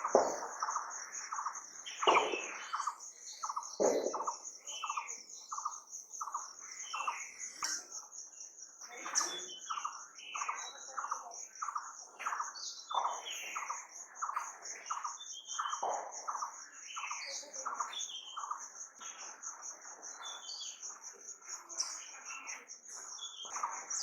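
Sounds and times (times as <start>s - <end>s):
birds calling and chirping: 0.0s - 24.0s.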